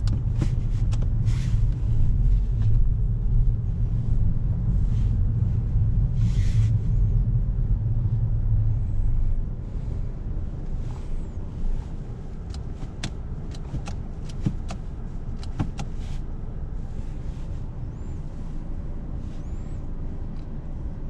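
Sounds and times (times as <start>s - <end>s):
engine and road noise rumble: 0.0s - 21.0s.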